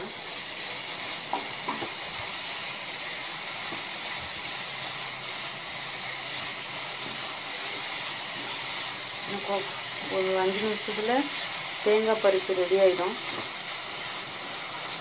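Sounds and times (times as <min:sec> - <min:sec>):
mixture sizzling in a pan: 0:00.0 - 0:15.0.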